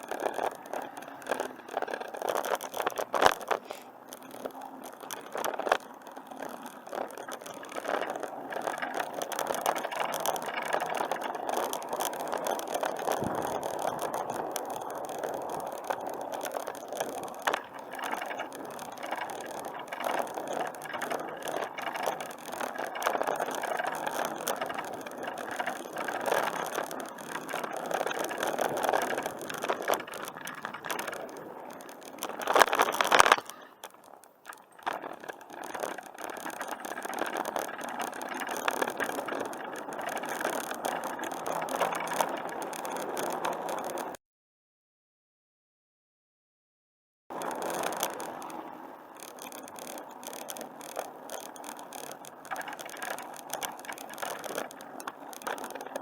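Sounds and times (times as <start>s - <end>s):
bicycle rattling and clicking: 0.0s - 44.2s, 47.3s - 56.0s.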